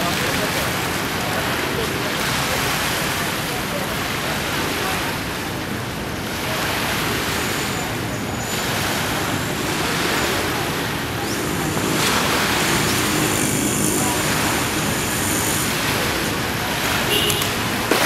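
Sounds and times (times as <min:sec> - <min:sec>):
small waves washing onto beach: 0:00.0 - 0:18.0.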